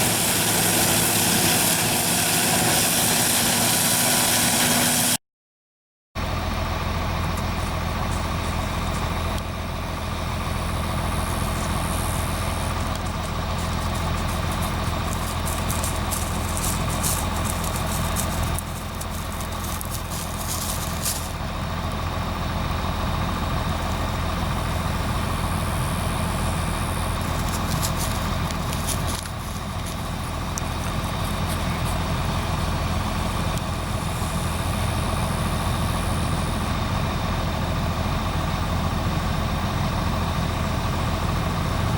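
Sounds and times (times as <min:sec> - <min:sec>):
combine harvester engine hum: 0:00.0 - 0:05.2, 0:06.2 - 0:41.9.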